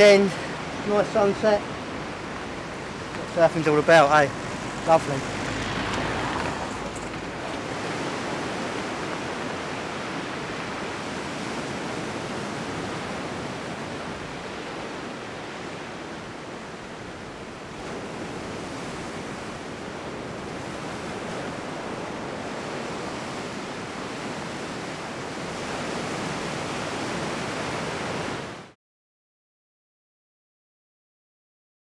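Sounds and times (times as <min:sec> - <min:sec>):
small waves breaking: 0:00.0 - 0:28.8.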